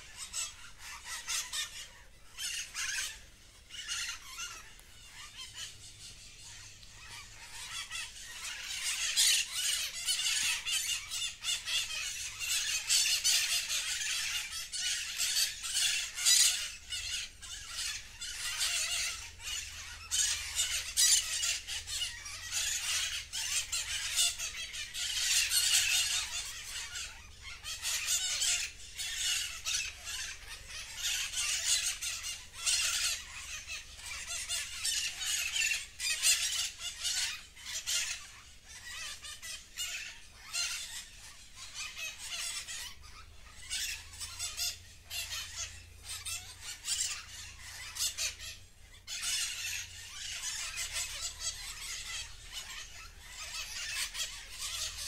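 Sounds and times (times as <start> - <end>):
birds squawking and chattering: 0.0 - 55.0.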